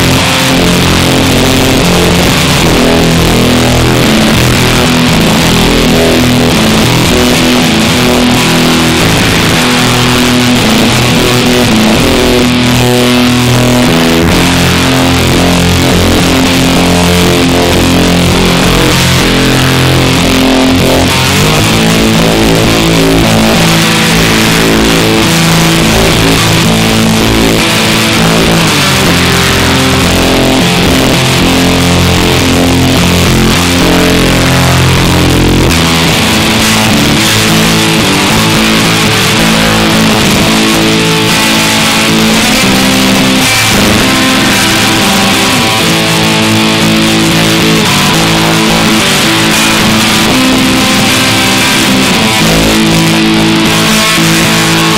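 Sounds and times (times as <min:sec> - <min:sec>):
electric guitar notes and chords: 0:00.0 - 0:54.9.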